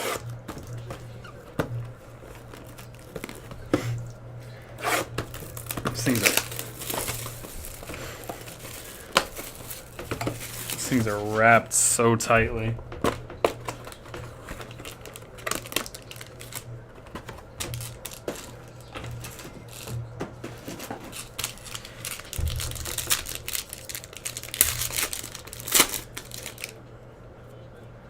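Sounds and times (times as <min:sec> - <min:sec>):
plastic wrapper crinkling and tearing: 0:00.0 - 0:11.9, 0:13.0 - 0:26.8
cards being handled: 0:00.0 - 0:26.8
steady low hum: 0:00.0 - 0:28.0.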